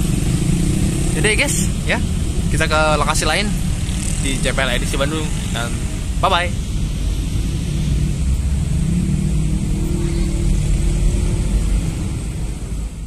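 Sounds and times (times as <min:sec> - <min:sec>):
cars passing with engines running: 0:00.0 - 0:13.0.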